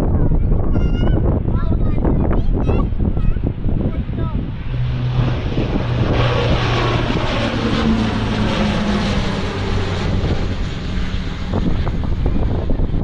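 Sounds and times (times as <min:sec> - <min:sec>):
turboprop plane taking off: 0:00.0 - 0:13.0
wind buffeting microphone: 0:00.0 - 0:13.0.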